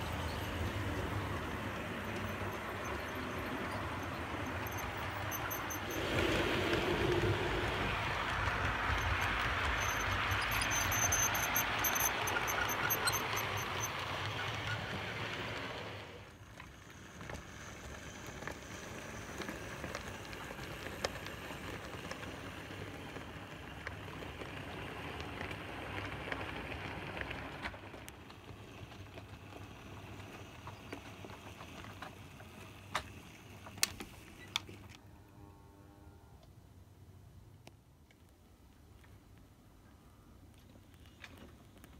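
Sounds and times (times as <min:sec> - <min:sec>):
model train rattling on track: 0:00.0 - 0:35.0.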